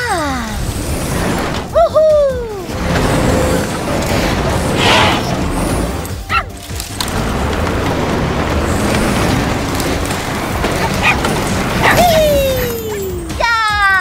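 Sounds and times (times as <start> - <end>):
cartoon background music: 0.0 - 14.0.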